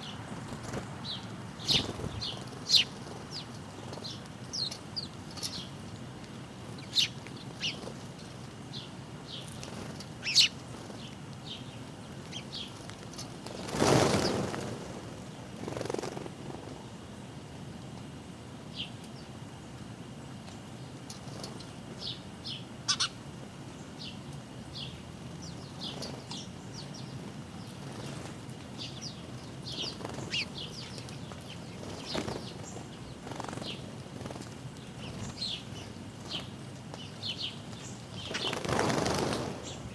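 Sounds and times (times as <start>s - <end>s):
birds chirping: 0.0s - 14.6s, 20.5s - 39.9s.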